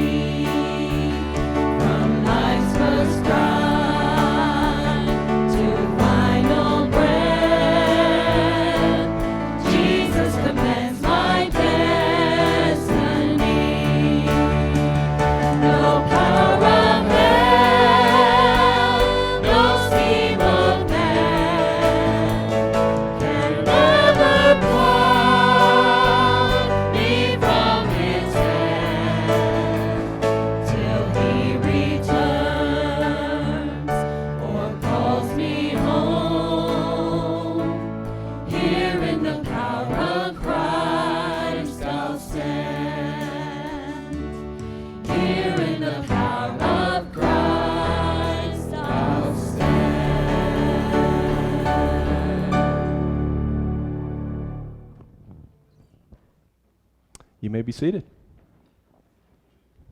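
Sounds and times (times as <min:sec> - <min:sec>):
group of voices singing: 0:00.0 - 0:53.6
instrumental accompaniment: 0:00.0 - 0:56.2.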